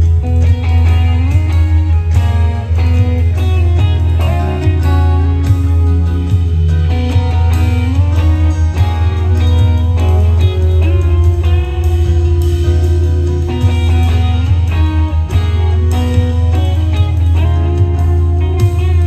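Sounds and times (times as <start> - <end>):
electric guitar melody: 0.0 - 19.0
live rock band playing: 0.0 - 19.0.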